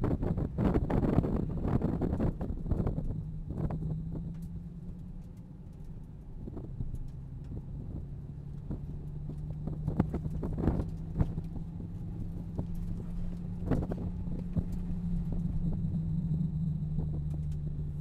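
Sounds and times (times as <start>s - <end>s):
car engine low drone inside cabin: 0.0s - 18.0s.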